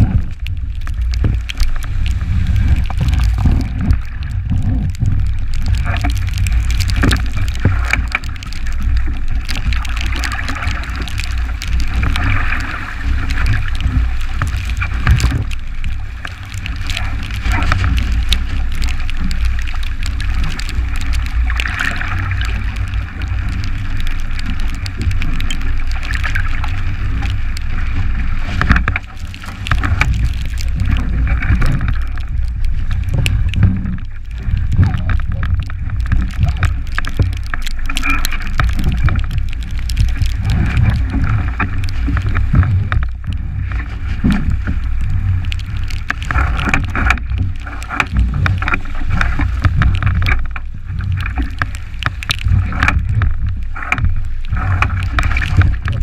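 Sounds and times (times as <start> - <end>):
water rushing past hull: 0.0 - 56.0.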